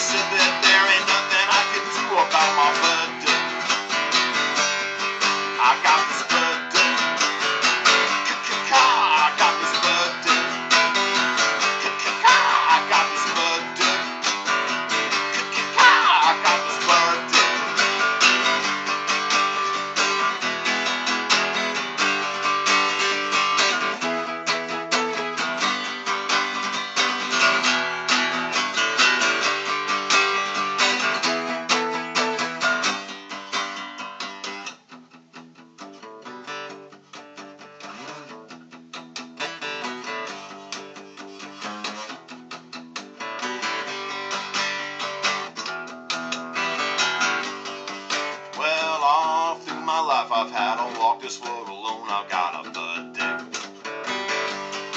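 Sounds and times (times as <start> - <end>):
acoustic guitar strumming: 0.0 - 54.9.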